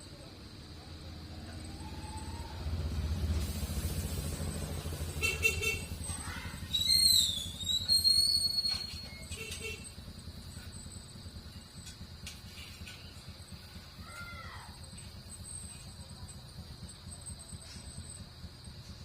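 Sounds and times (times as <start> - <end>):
motorcycle engine rumbling: 0.0 - 19.0
high whistling chirps: 0.1 - 19.0.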